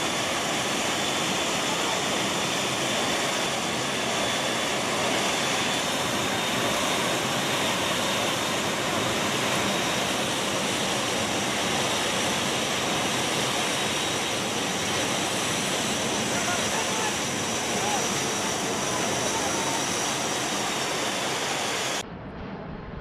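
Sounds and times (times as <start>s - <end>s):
jet engines: 0.0s - 23.0s
rushing wind: 0.0s - 23.0s.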